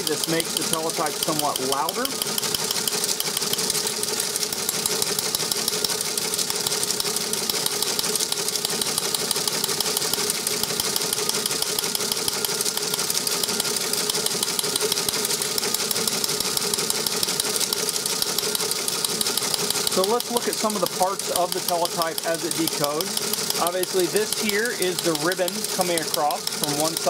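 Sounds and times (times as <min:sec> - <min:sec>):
steady machine hum: 0:00.0 - 0:27.0
teleprinter clattering: 0:00.0 - 0:27.0.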